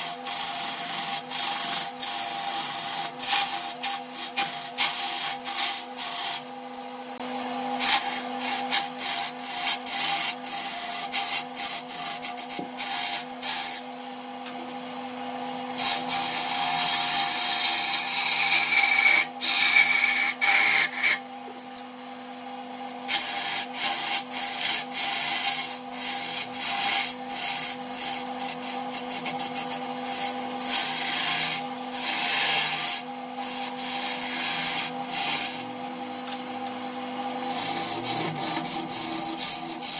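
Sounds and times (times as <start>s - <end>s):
turning tool scraping wood: 0.0s - 6.5s, 7.7s - 13.9s, 15.7s - 21.7s, 23.0s - 36.8s, 37.4s - 39.9s
wood lathe motor hum: 0.0s - 39.9s.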